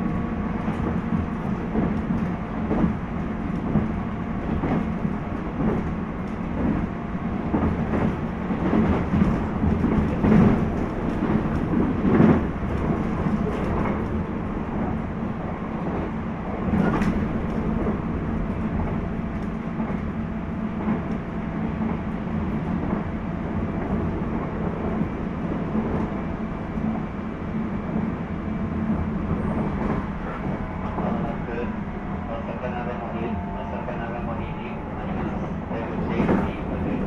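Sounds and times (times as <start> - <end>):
train running rumble: 0.0 - 37.0.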